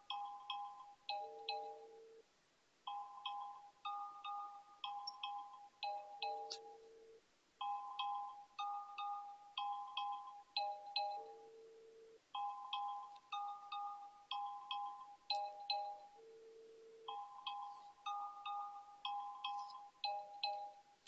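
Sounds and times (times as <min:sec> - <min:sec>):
smartphone ringtone melody: 0:00.0 - 0:02.2, 0:02.9 - 0:21.0.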